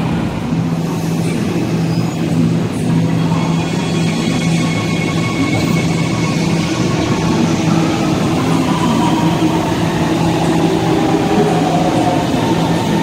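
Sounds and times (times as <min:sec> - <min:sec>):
metro train slowing: 0:00.0 - 0:13.0.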